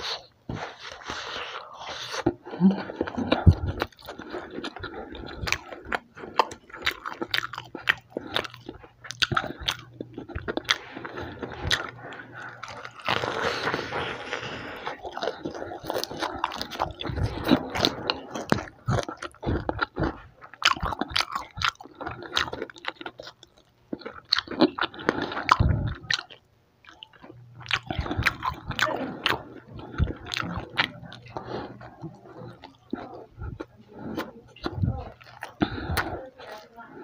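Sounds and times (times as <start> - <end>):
chewing crispy food: 0.0 - 37.0.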